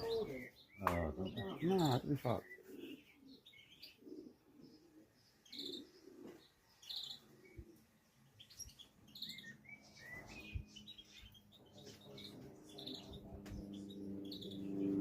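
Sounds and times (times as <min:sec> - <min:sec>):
pigeons cooing: 0:00.0 - 0:15.0
small birds chirping: 0:00.0 - 0:15.0.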